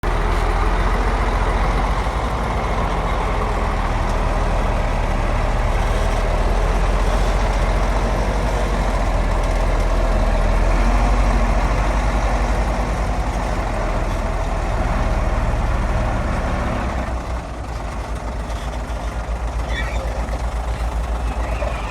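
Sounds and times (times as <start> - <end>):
heavy diesel engine rumbling: 0.0 - 21.9.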